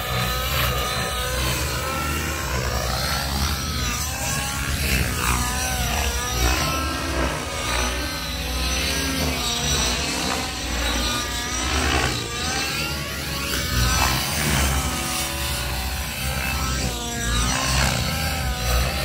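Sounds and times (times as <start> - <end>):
model helicopter rotor whine: 0.0 - 19.0.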